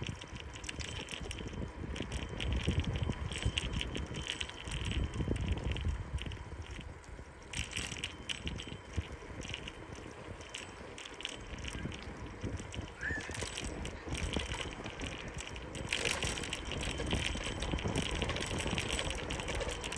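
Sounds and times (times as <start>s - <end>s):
bicycle tyres crackling on asphalt: 0.0s - 19.9s
wind rumble on microphone: 0.0s - 19.9s.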